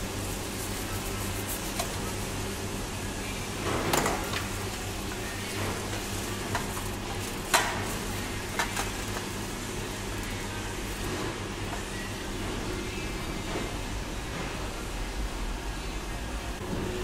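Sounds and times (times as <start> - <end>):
kitchen equipment hum: 0.0 - 17.0.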